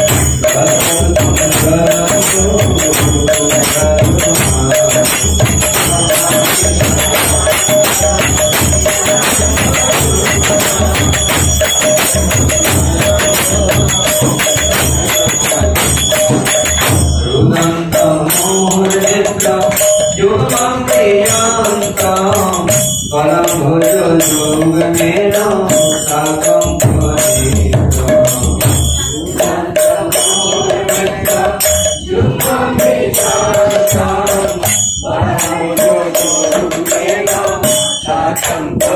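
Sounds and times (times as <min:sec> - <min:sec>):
drum beat: 0:00.0 - 0:38.9
jingling hand percussion: 0:00.0 - 0:38.9
voices singing a chant: 0:00.0 - 0:38.9.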